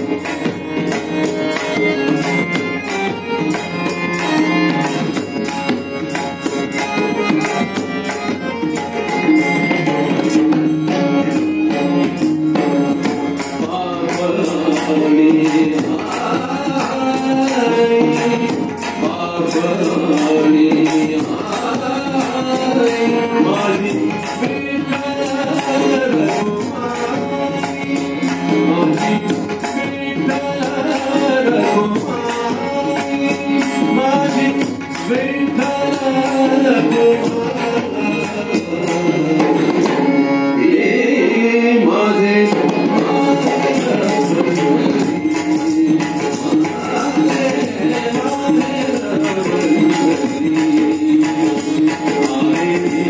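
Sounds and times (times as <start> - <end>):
rhythmic hand drumming: 0.0 - 41.3, 42.4 - 53.0
harmonium: 0.0 - 53.0
man singing devotional song: 0.0 - 53.0.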